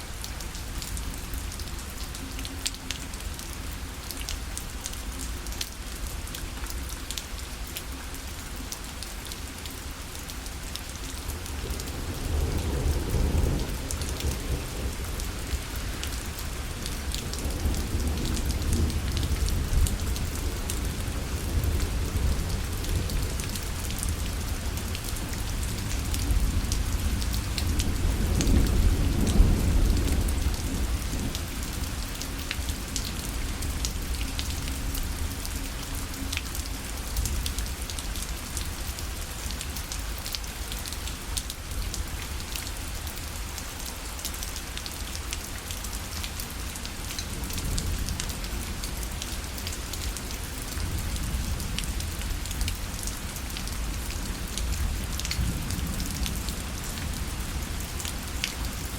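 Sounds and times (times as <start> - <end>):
rain on a parasol: 0.0 - 58.9.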